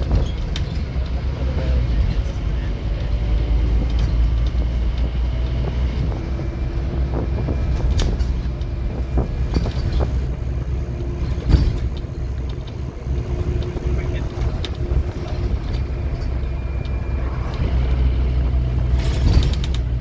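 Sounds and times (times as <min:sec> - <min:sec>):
bus body rattling: 0:00.0 - 0:20.0
bus diesel engine rumbling: 0:00.0 - 0:20.0.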